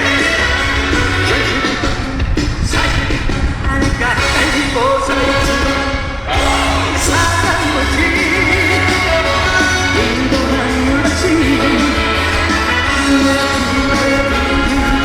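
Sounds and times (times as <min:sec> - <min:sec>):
backing music with heavy bass: 0:00.0 - 0:15.0
man singing with vibrato: 0:00.0 - 0:15.0.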